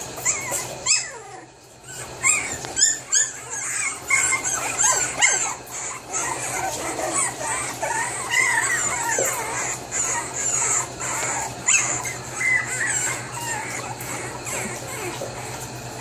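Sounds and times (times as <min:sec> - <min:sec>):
puppies crying: 0:00.0 - 0:16.0
steady low hum: 0:00.0 - 0:16.0.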